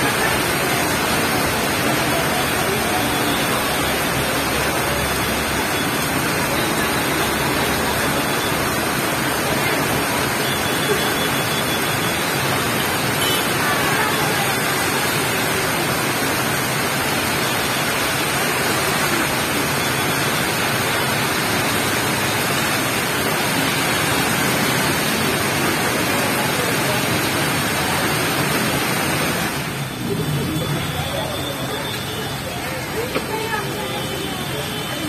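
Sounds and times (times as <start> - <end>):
faint voices: 0.0 - 19.7, 23.2 - 35.0
heavy rain falling: 0.0 - 35.0.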